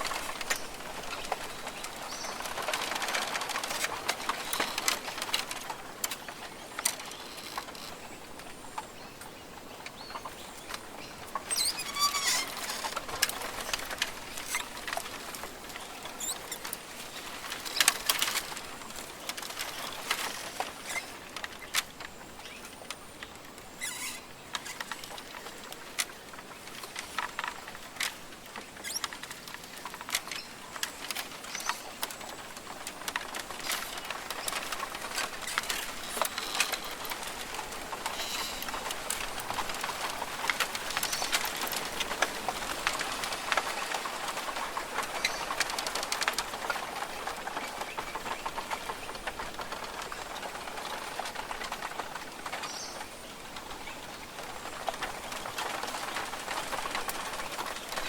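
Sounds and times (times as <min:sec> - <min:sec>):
bird sounds: 0:00.0 - 0:41.8, 0:43.0 - 0:58.0
crackling and pattering clicks: 0:00.0 - 0:58.0.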